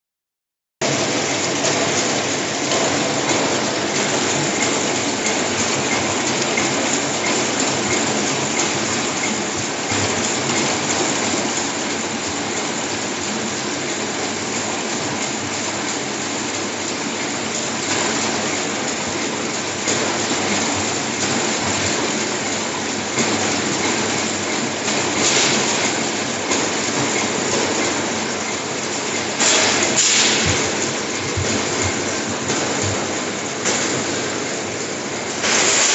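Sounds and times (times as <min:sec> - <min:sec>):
packing machine clatter: 0:00.8 - 0:35.9.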